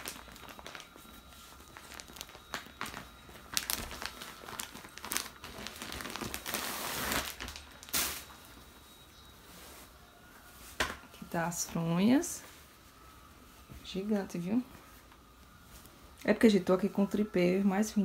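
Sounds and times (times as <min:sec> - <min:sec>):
plastic wrapping crinkling: 0:00.0 - 0:17.3.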